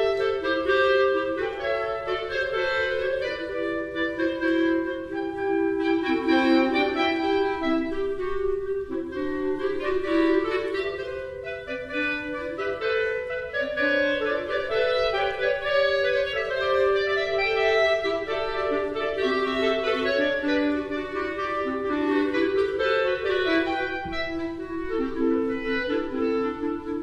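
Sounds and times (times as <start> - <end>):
clarinet ensemble holding notes: 0.0 - 27.0.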